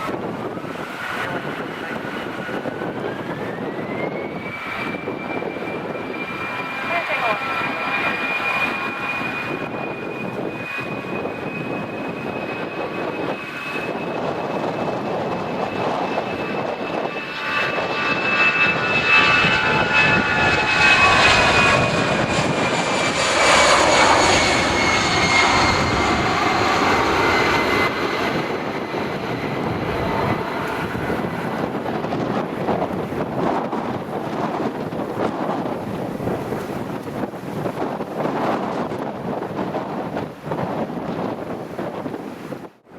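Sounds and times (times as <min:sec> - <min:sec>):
aircraft engine noise: 0:00.0 - 0:42.9
jet engine whine: 0:00.0 - 0:42.9.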